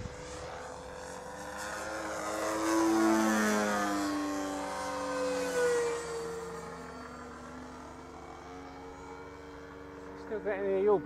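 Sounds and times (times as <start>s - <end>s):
model plane petrol engine: 0.0s - 11.0s.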